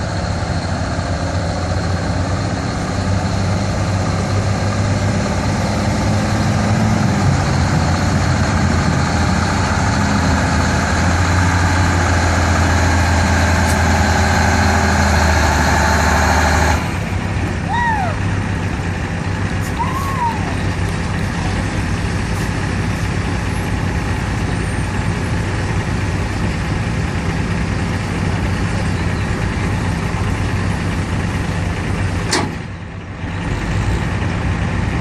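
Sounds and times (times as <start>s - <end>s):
truck diesel engine under load: 0.0s - 35.0s.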